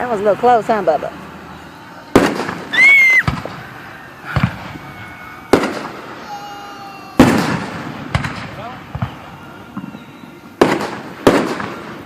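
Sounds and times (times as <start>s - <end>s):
fireworks bangs: 0.0s - 6.2s, 7.2s - 12.0s
loud high firework whistle: 1.4s - 12.0s.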